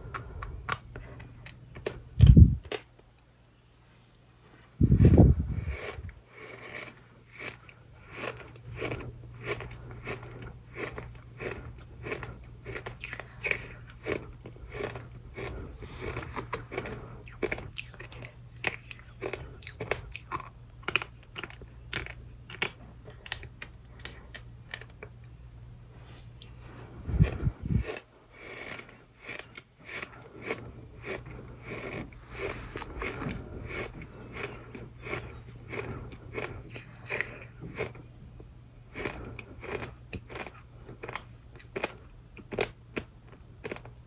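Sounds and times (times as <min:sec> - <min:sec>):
steady low hum: 0:00.0 - 0:44.0
chewing crunchy sand: 0:04.8 - 0:44.0.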